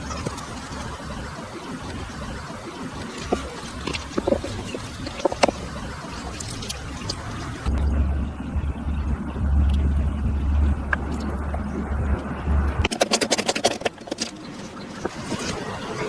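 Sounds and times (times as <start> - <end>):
low motor hum: 0.0 - 15.9.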